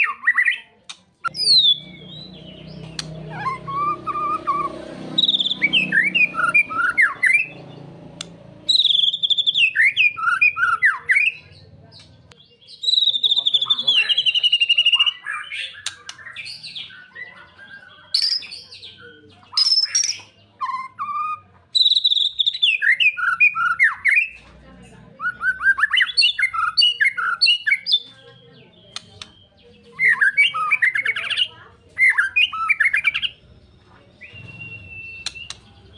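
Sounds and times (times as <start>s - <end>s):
bird singing whistles and trills: 1.2s - 7.6s, 8.2s - 11.6s, 12.5s - 24.4s, 25.2s - 35.9s.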